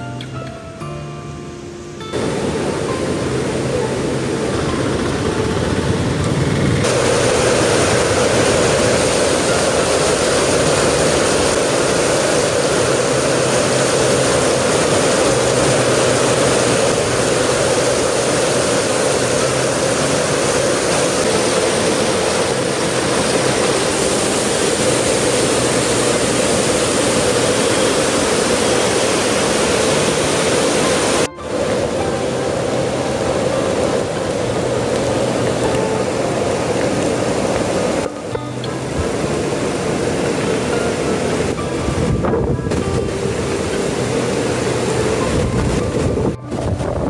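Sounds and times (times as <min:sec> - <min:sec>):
flooding river rushing: 0:02.0 - 0:47.0
heavy rain falling: 0:02.2 - 0:46.5.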